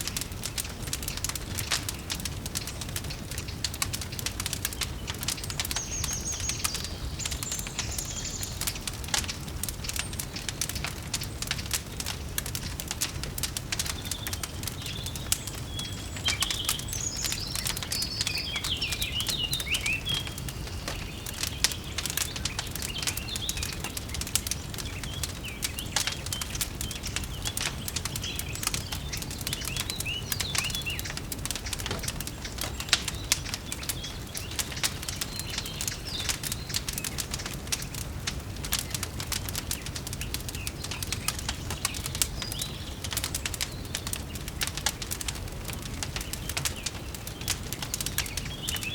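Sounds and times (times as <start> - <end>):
small birds chirping: 0.0 - 48.9
wood fire crackling: 0.0 - 48.9.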